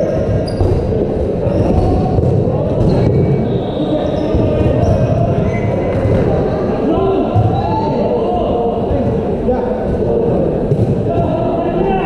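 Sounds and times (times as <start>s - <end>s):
balls bouncing on hall floor: 0.0s - 11.6s
players' voices: 0.0s - 12.0s.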